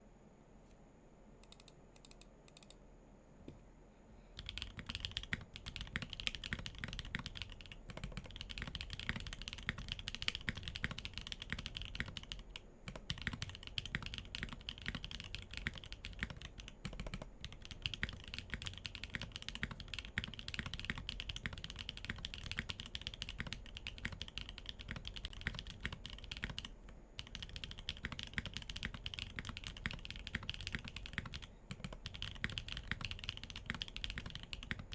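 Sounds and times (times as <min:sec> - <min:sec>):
mechanical keyboard typing: 0:01.4 - 0:02.8, 0:04.4 - 0:34.9.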